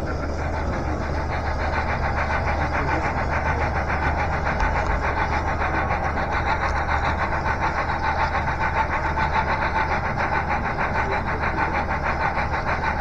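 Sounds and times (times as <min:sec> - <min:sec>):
constant low hum: 0:00.0 - 0:13.0
model steam locomotive chuffing: 0:00.0 - 0:13.0.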